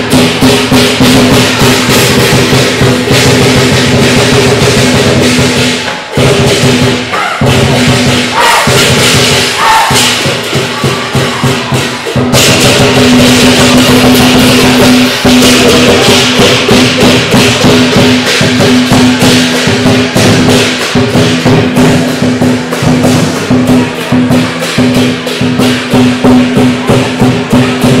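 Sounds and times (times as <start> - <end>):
clashing cymbals: 0.0 - 28.0
drum beating: 0.0 - 28.0.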